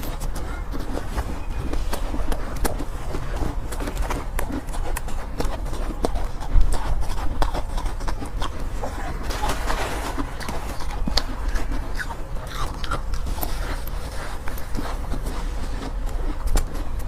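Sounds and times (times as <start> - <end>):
chewing ice crunches: 0.0 - 17.0.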